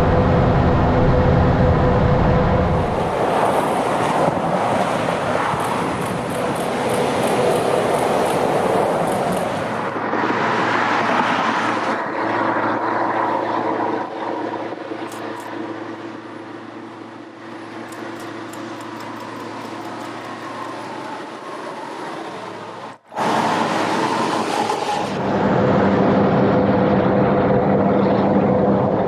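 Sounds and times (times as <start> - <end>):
heavy truck engine and tyres rumbling: 0.0 - 29.0.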